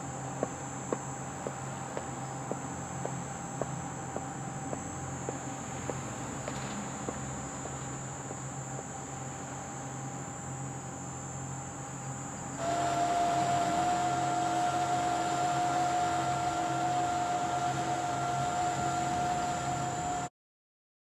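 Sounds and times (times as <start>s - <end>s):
machine hum and whine: 0.0s - 20.3s.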